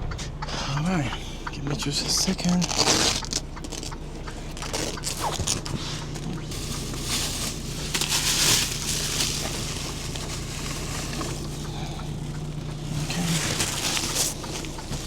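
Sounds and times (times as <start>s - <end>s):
steady low hum: 0.0s - 15.0s
rustling and crackling of handling: 1.8s - 15.0s.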